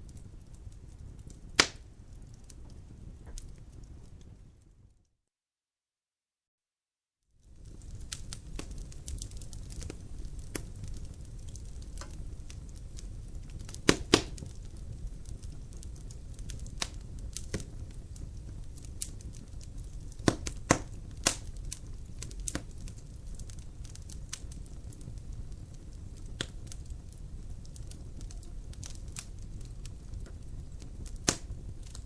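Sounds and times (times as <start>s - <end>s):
wood fire crackling: 0.0s - 4.8s, 7.4s - 32.0s.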